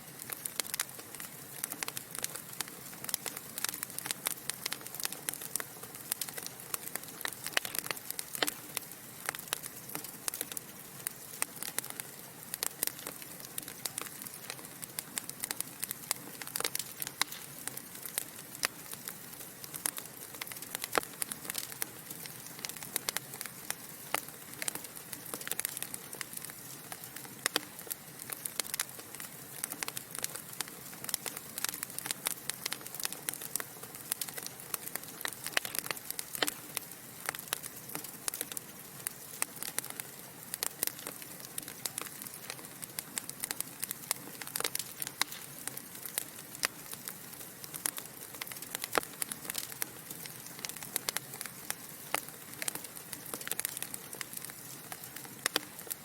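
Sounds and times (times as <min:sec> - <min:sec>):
fire crackling and popping: 0:00.0 - 0:56.0
fire soft hiss: 0:00.0 - 0:56.0.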